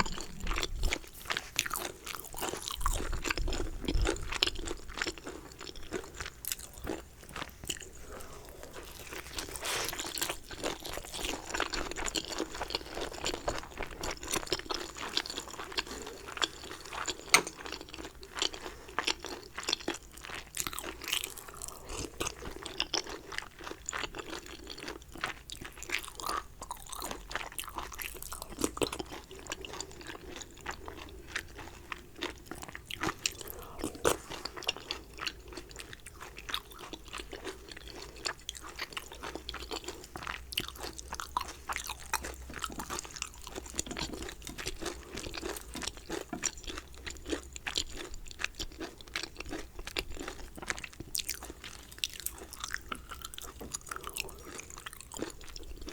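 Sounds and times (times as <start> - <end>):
chewing and biting dumplings: 0.0 - 55.9.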